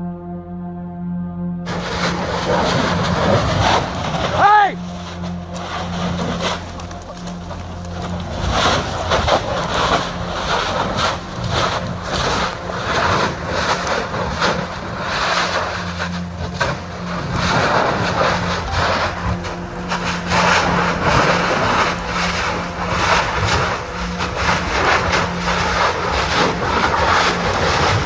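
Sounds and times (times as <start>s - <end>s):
steady low hum: 0.0s - 28.0s
crackling lava spatter bursts: 1.7s - 28.0s
lava rumbling roar: 1.7s - 28.0s.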